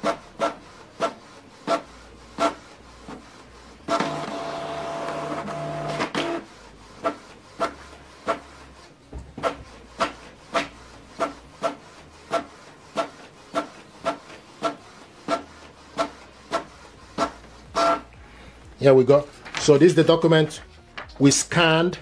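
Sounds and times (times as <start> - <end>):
inkjet printer printing: 0.0 - 22.0.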